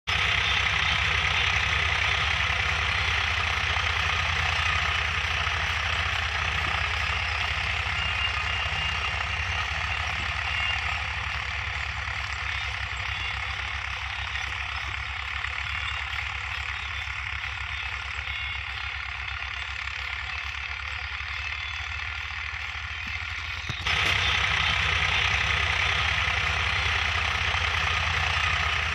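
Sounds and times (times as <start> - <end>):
tractor diesel engine knocking: 0.1 - 28.9.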